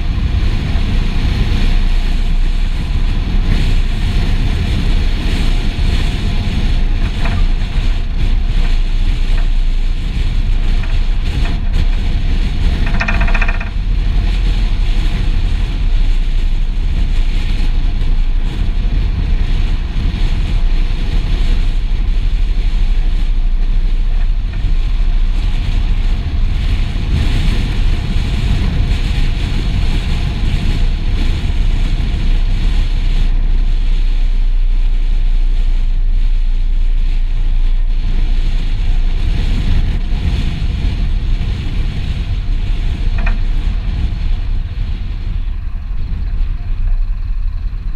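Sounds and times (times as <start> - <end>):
fire engine rumble: 0.0 - 47.9
wind on microphone: 0.0 - 47.9.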